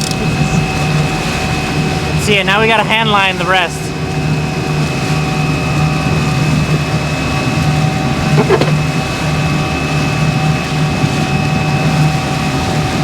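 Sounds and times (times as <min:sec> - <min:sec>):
boat engine drone: 0:00.0 - 0:13.0
steady whine: 0:00.0 - 0:13.0.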